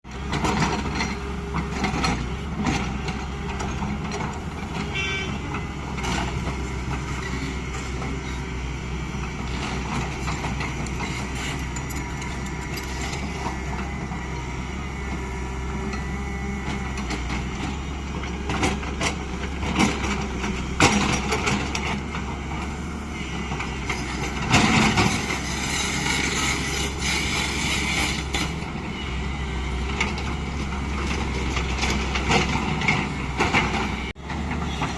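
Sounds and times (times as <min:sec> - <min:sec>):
heavy diesel engine running: 0:00.1 - 0:34.9.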